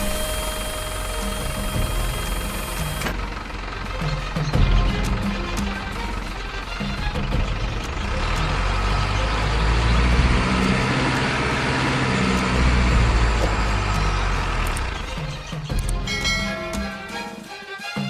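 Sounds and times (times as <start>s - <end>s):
diesel truck engine rumbling: 0.0s - 17.2s.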